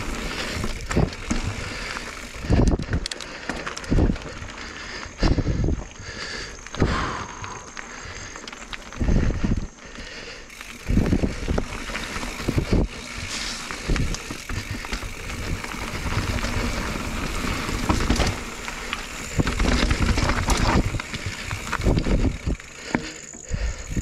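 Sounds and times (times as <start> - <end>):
wind rumbling on microphone: 0.0 - 3.1, 3.8 - 9.8, 10.7 - 22.7
bike clattering over bumps: 0.0 - 24.0
bike tyres on loose stones: 0.0 - 24.0.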